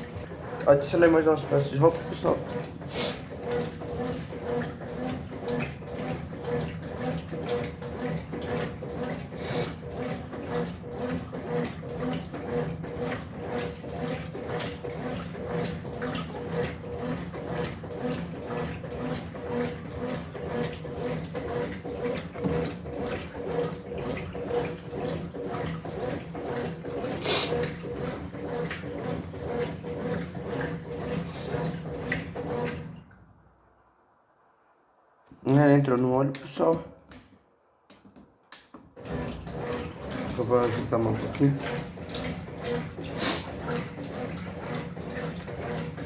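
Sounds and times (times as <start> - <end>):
washing machine motor humming: 0.0 - 33.6, 38.6 - 46.0.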